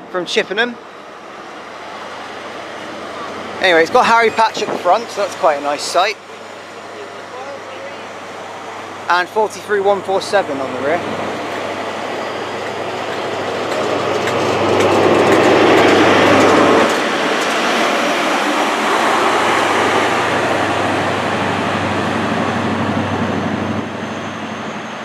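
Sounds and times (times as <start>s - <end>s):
diesel engine hum: 0.7s - 25.0s
train wheels rumbling on rails: 1.0s - 25.0s.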